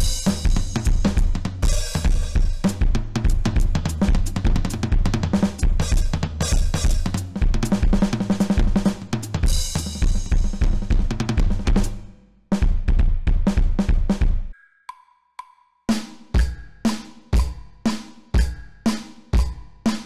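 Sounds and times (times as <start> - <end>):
electronic drum kit played fast: 0.0 - 14.6, 15.9 - 20.0.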